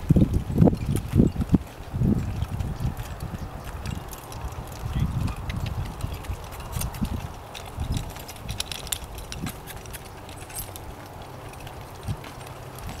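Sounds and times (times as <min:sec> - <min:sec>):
harness clinking and jingling: 0:00.0 - 0:13.0
hoofbeats on soft dirt: 0:00.0 - 0:13.0.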